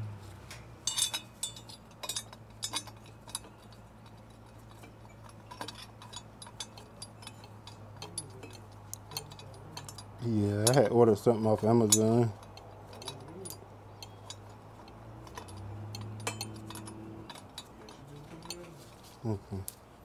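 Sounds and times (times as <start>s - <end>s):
steady low hum: 0.0s - 20.0s
metal tools clinking: 0.6s - 19.8s.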